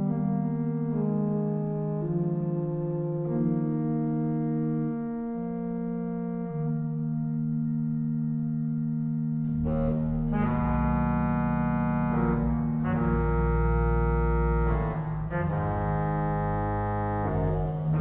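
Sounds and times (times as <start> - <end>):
pipe organ chords: 0.0 - 18.0.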